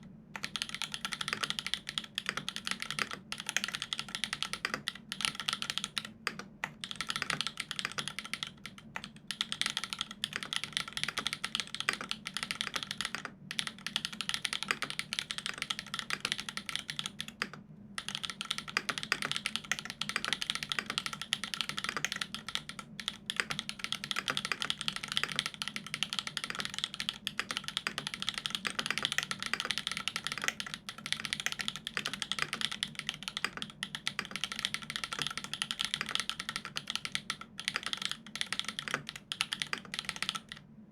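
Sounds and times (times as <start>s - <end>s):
mechanical keyboard typing: 0.4s - 40.6s.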